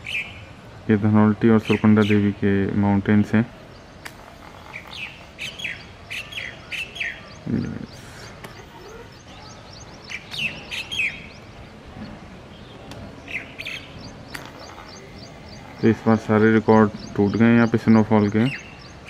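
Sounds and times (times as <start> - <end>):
small bird chirping: 3.2 - 19.0.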